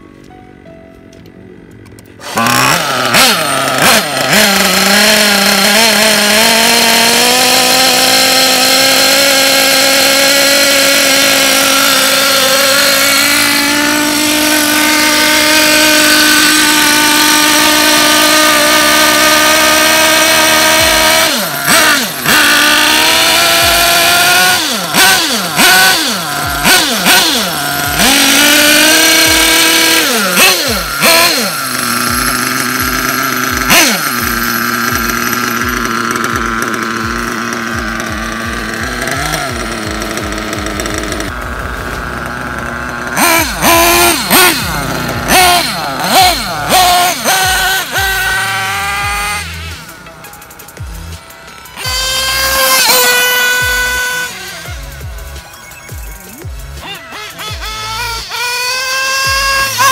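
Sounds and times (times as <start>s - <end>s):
small engine revving: 1.6s - 59.9s.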